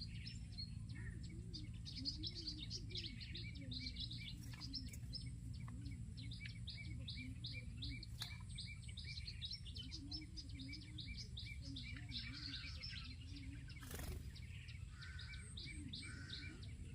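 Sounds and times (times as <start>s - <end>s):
bird chirping rapidly: 0.0s - 16.9s
steady low rumble: 0.0s - 16.9s.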